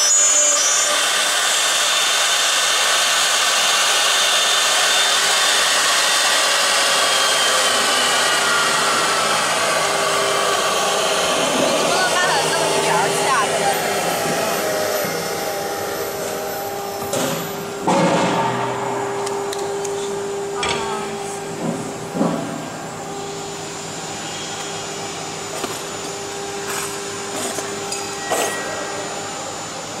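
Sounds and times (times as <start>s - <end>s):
router spindle whine: 0.0s - 17.9s, 19.0s - 30.0s.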